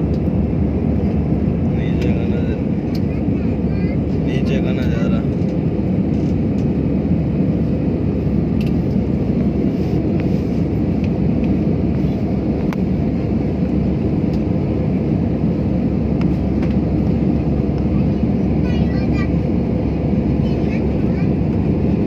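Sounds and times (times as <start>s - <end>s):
airliner engine rumble: 0.0s - 22.0s.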